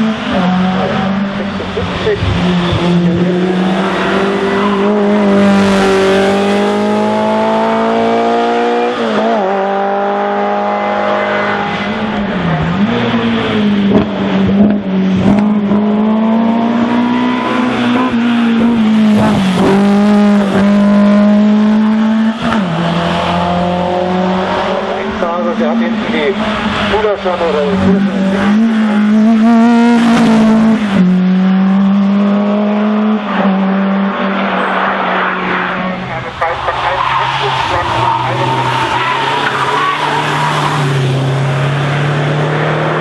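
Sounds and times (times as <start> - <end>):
racing car engine revving: 0.0 - 43.0.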